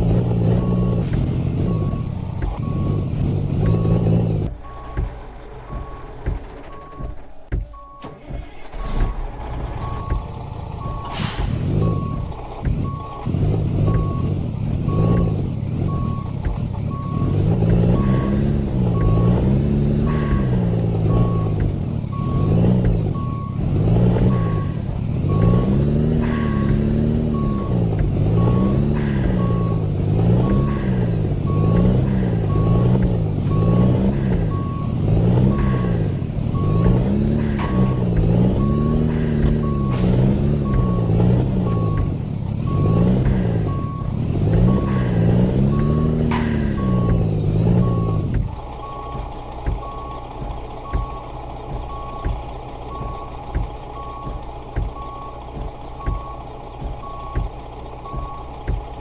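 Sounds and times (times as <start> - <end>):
truck engine revving: 0.0 - 59.0
back-up alarm beeping: 0.3 - 59.0.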